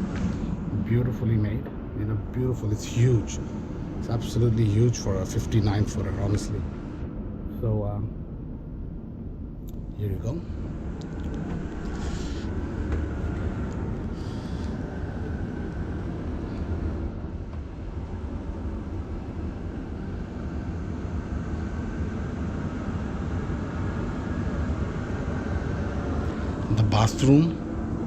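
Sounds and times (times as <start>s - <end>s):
faint hum: 0.0s - 28.0s.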